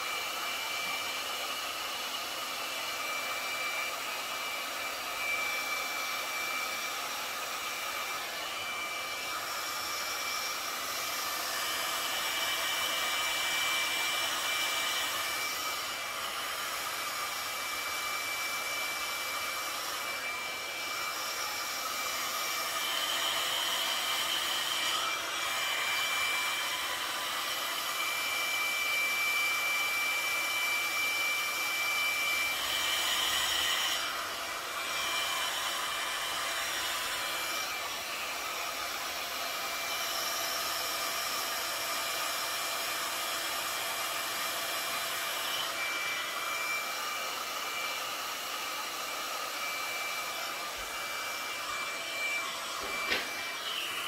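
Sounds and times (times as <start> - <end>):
hair dryer fan blowing: 0.0 - 54.0.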